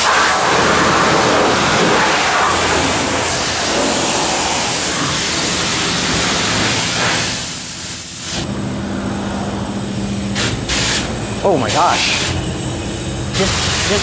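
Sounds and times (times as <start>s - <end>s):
pressure washer spraying water: 0.0s - 8.6s, 9.2s - 14.0s
low steady hum: 0.0s - 13.4s.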